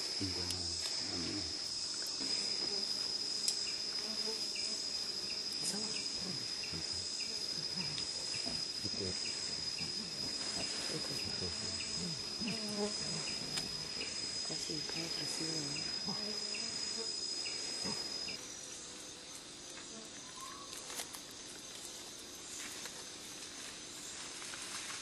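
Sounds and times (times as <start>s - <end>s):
high-pitched insect drone: 0.0s - 20.9s
short insect chirp: 0.0s - 23.0s.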